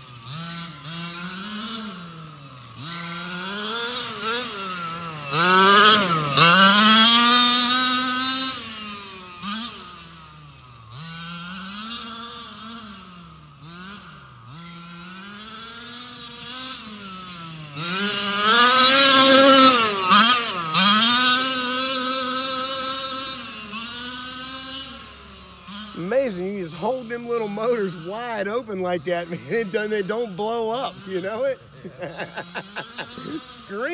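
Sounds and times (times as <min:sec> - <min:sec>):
rc truck engine revving: 0:00.0 - 0:33.9.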